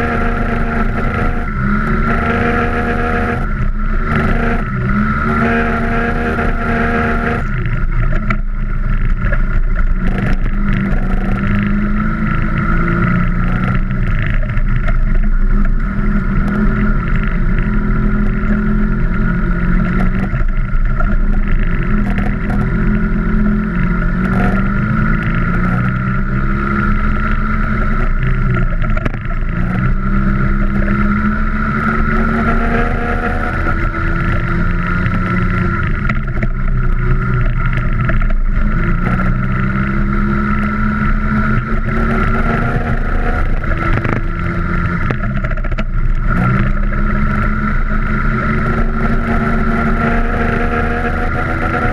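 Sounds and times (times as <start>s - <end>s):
scooter engine revving: 0.0s - 51.9s.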